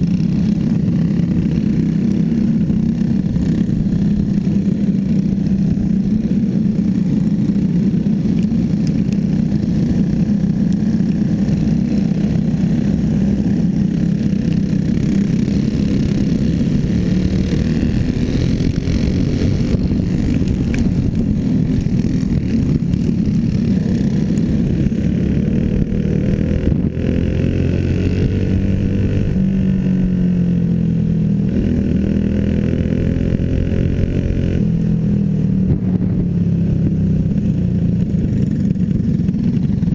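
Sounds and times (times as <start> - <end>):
drone of racing motorcycle engines: 0.0 - 39.9
nearer motorcycle engine revving: 0.0 - 39.9.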